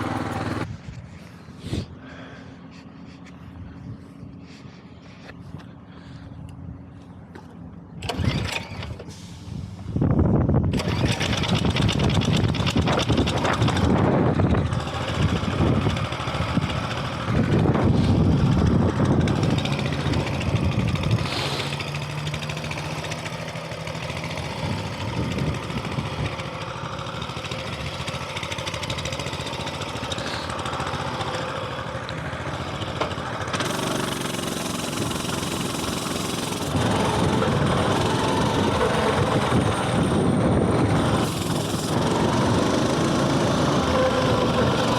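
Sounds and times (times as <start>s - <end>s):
small engine running: 0.0s - 6.6s, 7.3s - 9.8s, 10.6s - 44.9s.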